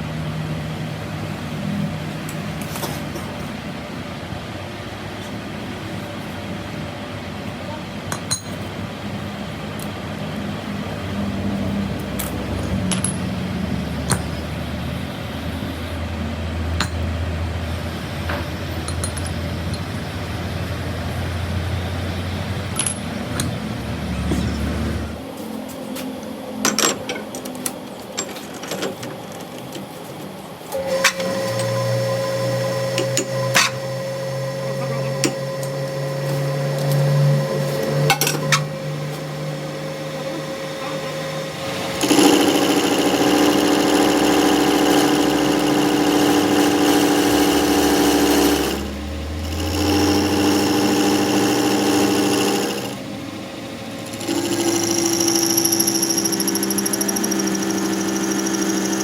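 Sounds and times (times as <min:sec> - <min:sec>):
machine humming and whining: 0:00.0 - 0:59.0.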